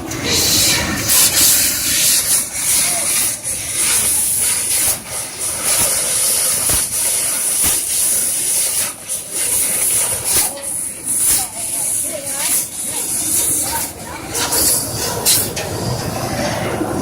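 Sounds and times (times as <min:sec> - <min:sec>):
laser cutter gas hissing: 0:00.0 - 0:17.0.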